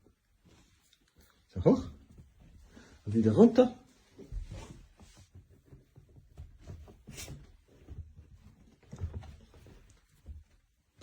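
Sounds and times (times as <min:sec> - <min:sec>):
dog paws thumping on stairs: 0:01.9 - 0:11.0.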